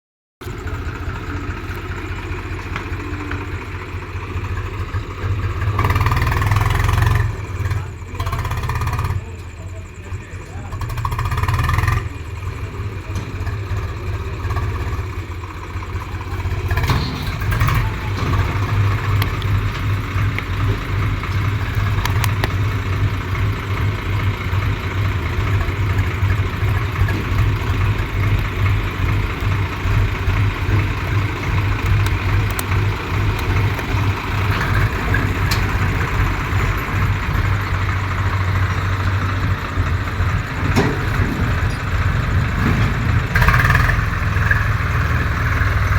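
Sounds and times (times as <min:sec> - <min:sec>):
tractor engine running: 0:00.4 - 0:45.9.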